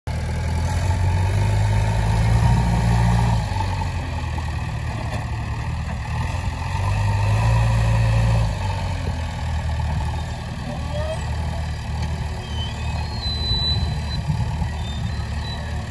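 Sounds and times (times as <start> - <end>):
diesel engine running: 0.1 - 15.9.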